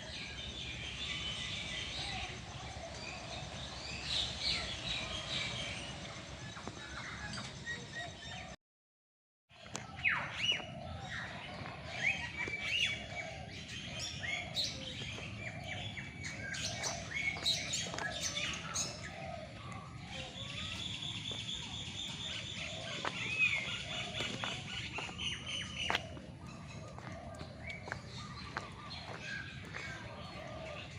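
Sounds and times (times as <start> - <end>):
birds chirping and whistling: 0.0 - 8.6, 9.6 - 30.9.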